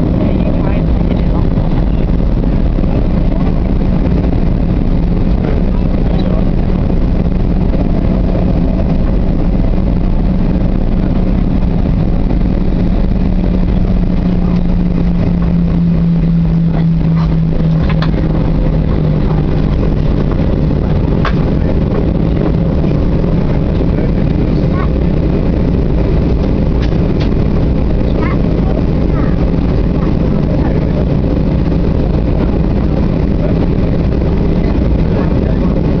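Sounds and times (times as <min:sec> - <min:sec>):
jet engine cabin rumble: 0:00.0 - 0:36.0.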